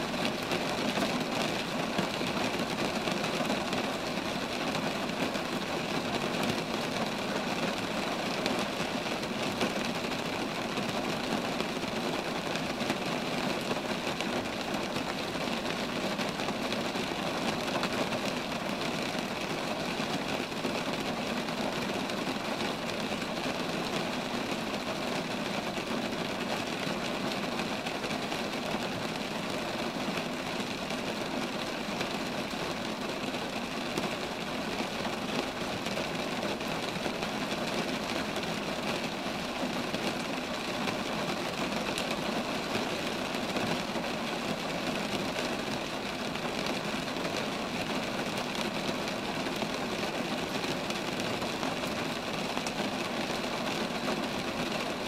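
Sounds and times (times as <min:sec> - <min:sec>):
rain falling on trees: 0:00.0 - 0:55.0.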